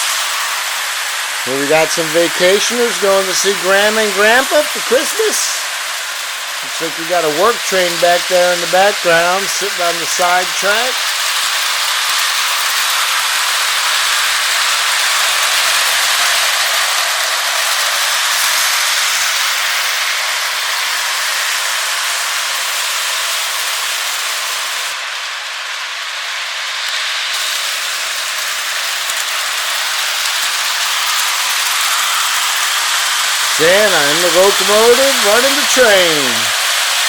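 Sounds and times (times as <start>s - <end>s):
model trains running on track: 0.0s - 37.0s.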